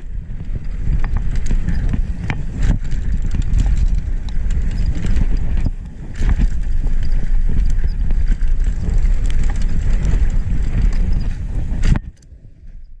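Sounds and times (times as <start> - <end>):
tyres rumbling over dirt: 0.0 - 12.0
bike rattling with sharp clicks: 0.0 - 13.0
wind buffeting microphone: 0.0 - 13.0.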